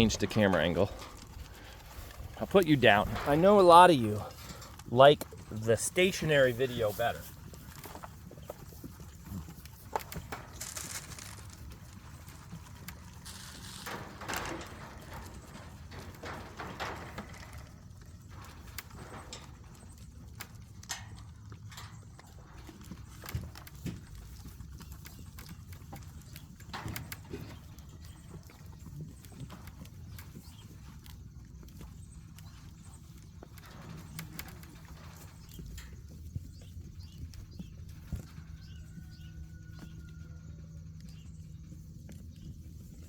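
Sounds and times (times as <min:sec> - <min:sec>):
goat hooves on barn floor: 0:00.0 - 0:43.0.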